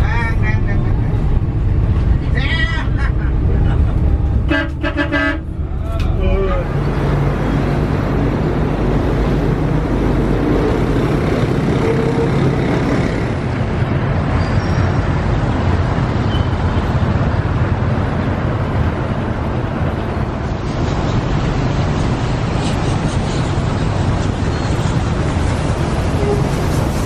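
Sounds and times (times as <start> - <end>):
car engine and tyres rumbling: 0.0 - 27.0
traffic: 0.0 - 27.0
wind: 0.0 - 27.0.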